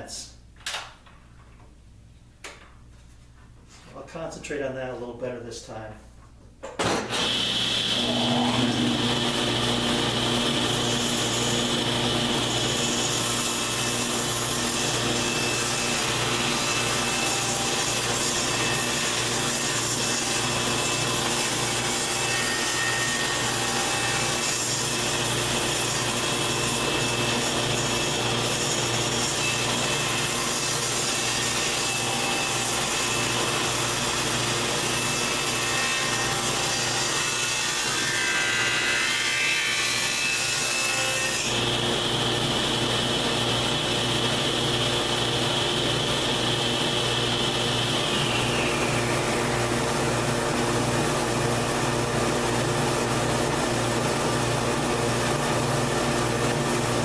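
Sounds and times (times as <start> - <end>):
table saw cutting board: 6.8 - 57.0.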